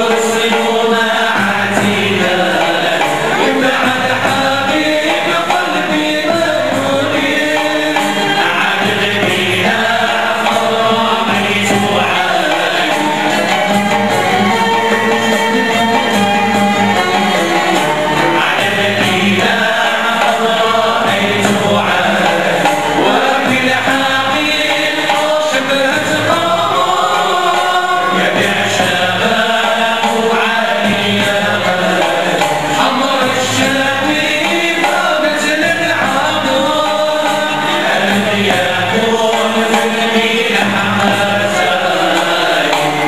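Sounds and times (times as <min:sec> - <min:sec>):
string orchestra playing: 0:00.0 - 0:35.2
choir singing: 0:00.0 - 0:43.0.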